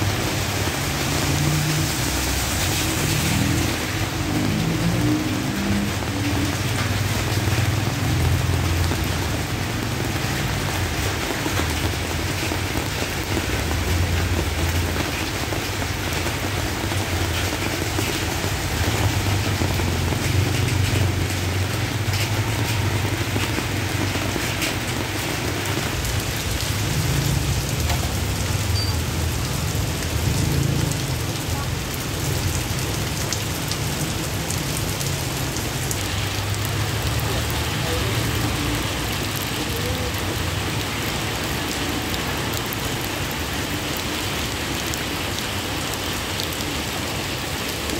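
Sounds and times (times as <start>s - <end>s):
heavy rain on a street: 0.0s - 47.9s
rain pattering on canvas: 0.0s - 47.9s.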